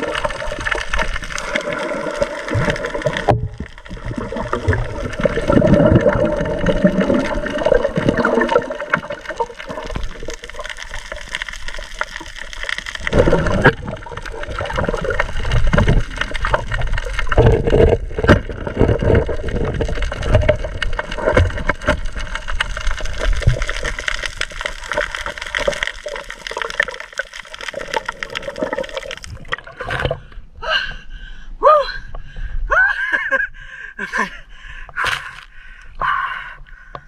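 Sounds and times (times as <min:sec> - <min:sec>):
water splashing: 0:00.0 - 0:30.3
water rushing and gurgling underwater: 0:00.0 - 0:30.6.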